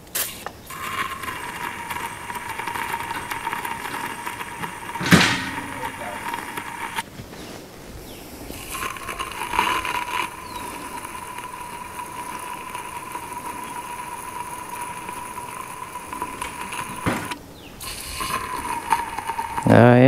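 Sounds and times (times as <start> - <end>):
aerosol spray hissing with whistle: 0.0 - 7.0, 8.3 - 20.0.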